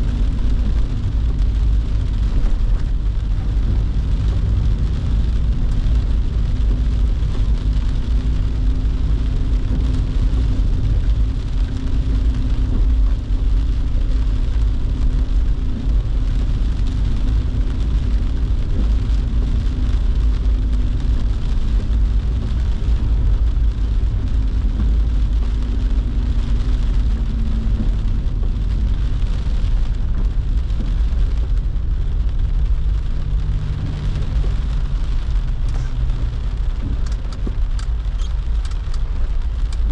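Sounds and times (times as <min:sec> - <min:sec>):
rain and wet tyres hissing: 0:00.0 - 0:39.9
road and engine rumble: 0:00.0 - 0:39.9.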